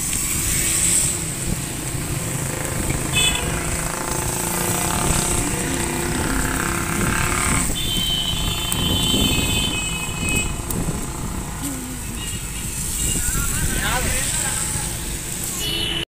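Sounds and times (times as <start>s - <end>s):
traffic on wet street: 0.0s - 16.0s.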